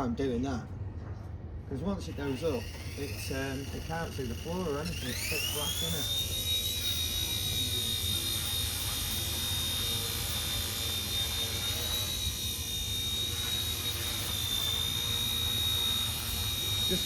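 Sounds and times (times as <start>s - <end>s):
rc helicopter motor whine: 2.0s - 17.0s.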